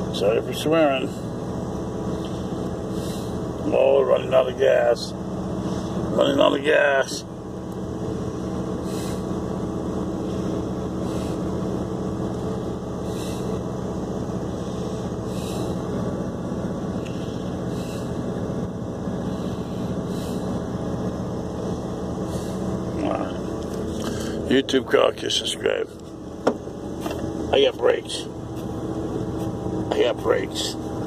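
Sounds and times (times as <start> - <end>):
pickup engine running: 0.0 - 31.0.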